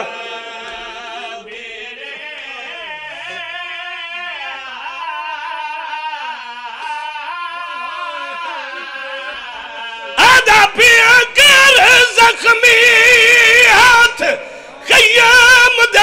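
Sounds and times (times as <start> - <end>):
man singing lament: 0.0 - 16.0.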